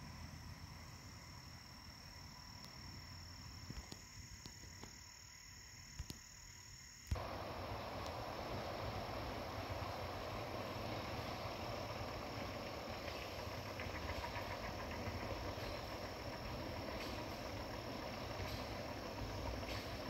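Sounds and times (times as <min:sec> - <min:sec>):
insects calling: 0:00.0 - 0:20.0
steady hiss: 0:00.0 - 0:20.0.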